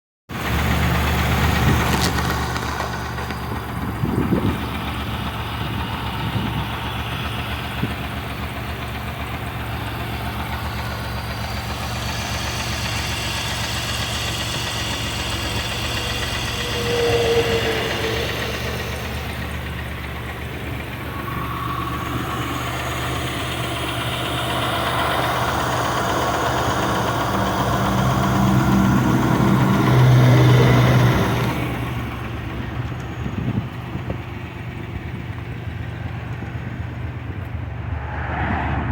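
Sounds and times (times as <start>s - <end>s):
car engine running: 0.4s - 38.9s.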